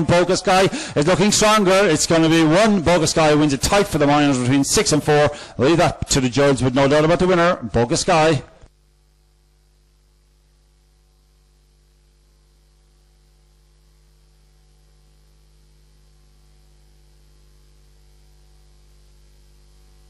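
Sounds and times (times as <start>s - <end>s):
faint electrical mains hum: 0.0s - 20.0s.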